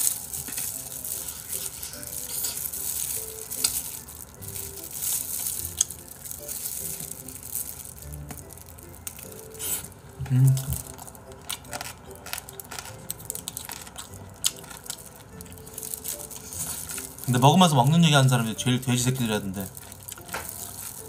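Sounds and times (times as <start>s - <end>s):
crunching and chewing fried chicken: 0.0s - 21.0s.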